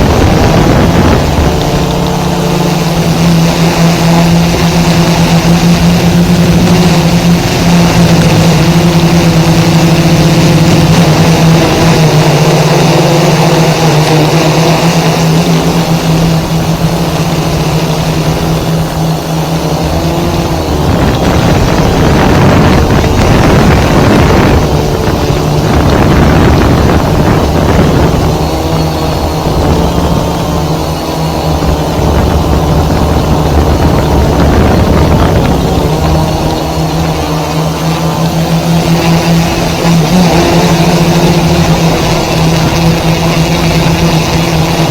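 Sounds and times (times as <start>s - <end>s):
drone motors and propellers humming: 0.0s - 44.9s.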